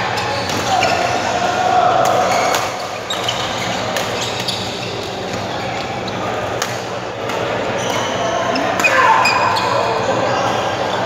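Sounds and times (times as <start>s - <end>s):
sports hall din: 0.0s - 11.0s.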